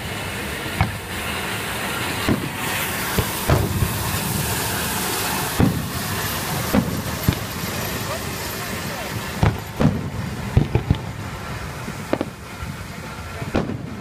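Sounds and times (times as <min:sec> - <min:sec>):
fireworks bursting: 0:00.0 - 0:14.0
steady hiss: 0:00.0 - 0:14.0.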